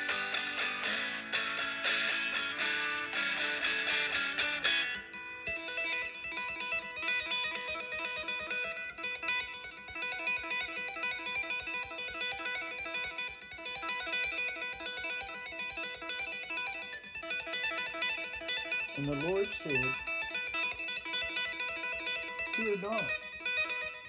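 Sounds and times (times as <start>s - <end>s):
electric guitar strummed chords: 0.0s - 24.0s
electric guitar tapped notes: 0.0s - 24.0s.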